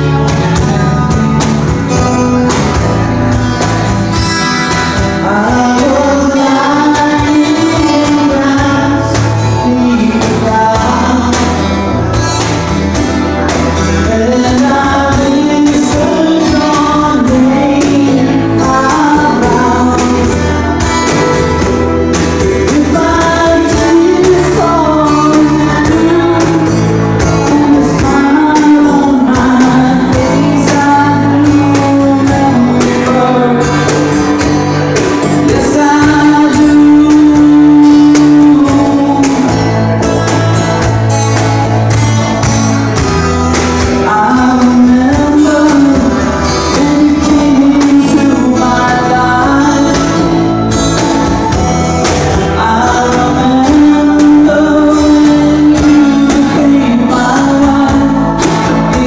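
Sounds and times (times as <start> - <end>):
electric bass: 0.0 - 59.0
keyboard: 0.0 - 59.0
man singing lead: 0.0 - 59.0
strummed acoustic guitar: 0.0 - 59.0.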